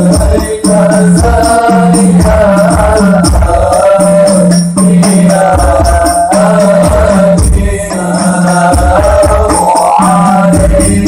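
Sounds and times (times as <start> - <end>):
frame drums with jingles: 0.0 - 11.0
man singing a hymn: 0.0 - 11.0.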